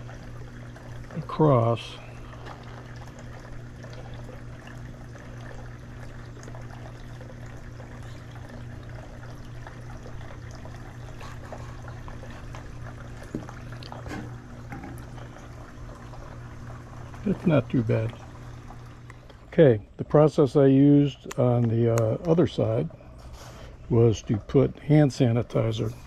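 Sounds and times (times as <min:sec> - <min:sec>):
low electric hum: 0:00.0 - 0:26.0.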